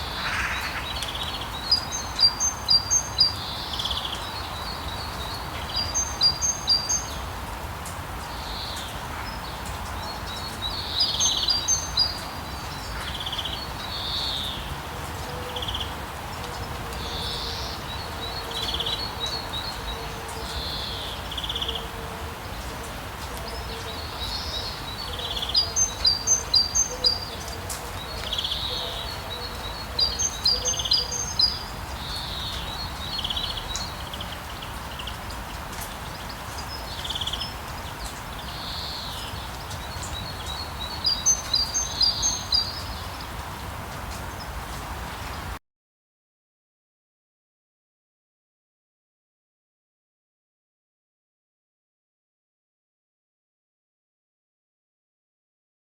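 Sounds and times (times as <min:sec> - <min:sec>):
rain falling on a street: 0:00.0 - 0:45.6
songbirds chirping: 0:00.0 - 0:45.6.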